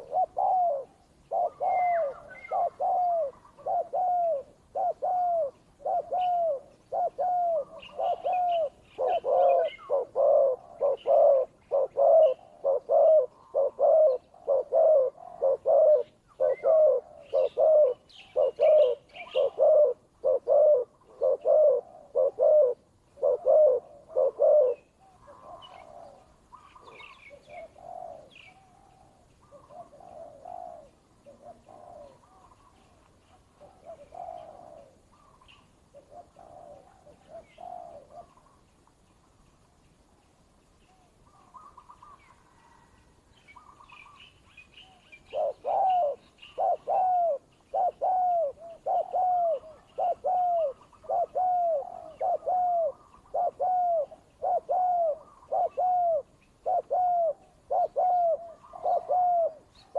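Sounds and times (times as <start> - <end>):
doves cooing: 0.0 - 38.6, 41.0 - 43.0, 44.8 - 59.9
small birds chirping: 0.0 - 59.9.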